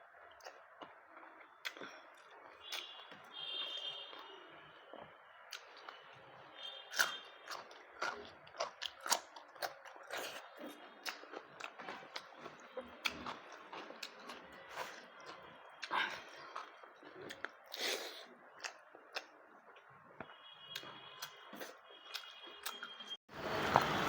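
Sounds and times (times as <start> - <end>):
person chewing food: 0.1 - 6.1, 6.9 - 24.0.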